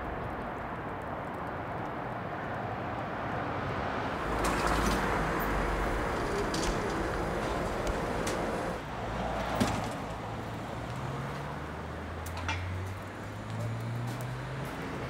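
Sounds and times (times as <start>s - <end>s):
traffic noise with low rumble: 0.0s - 15.0s.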